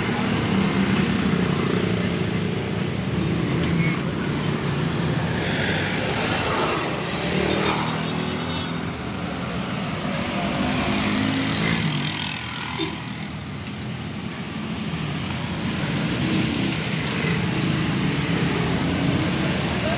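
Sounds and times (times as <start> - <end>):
passing traffic: 0.0 - 19.9.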